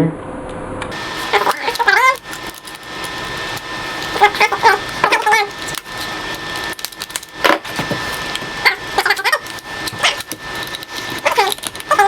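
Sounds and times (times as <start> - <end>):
plastic packaging crackling: 0.9 - 12.0.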